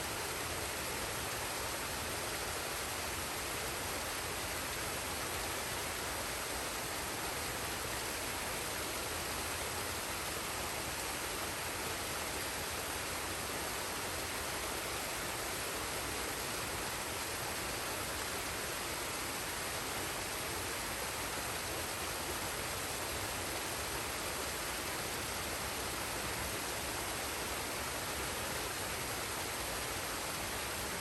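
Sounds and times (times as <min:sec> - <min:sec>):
waterfall and stream rushing: 0:00.0 - 0:31.0.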